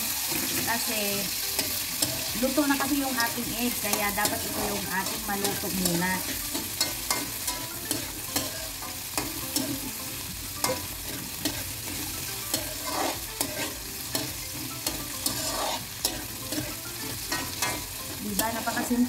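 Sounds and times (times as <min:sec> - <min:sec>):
vegetables sizzling in oil: 0:00.0 - 0:19.0
spatula scraping a pan: 0:01.6 - 0:09.8, 0:10.5 - 0:19.0.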